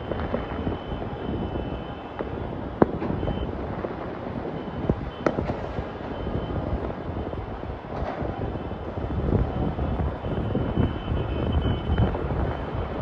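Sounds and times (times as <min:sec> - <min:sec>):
distant firecrackers popping: 0:00.0 - 0:13.0.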